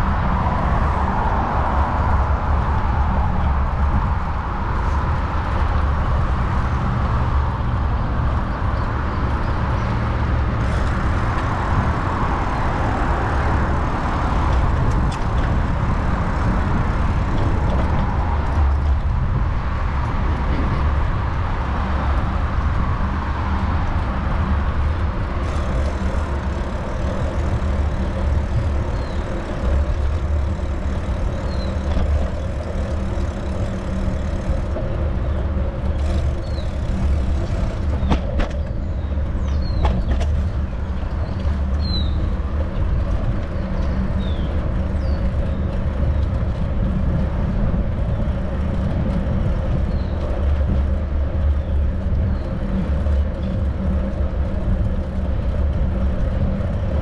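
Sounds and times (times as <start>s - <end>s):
road traffic passing: 0.0s - 57.0s
wind rumble on microphone: 0.0s - 57.0s.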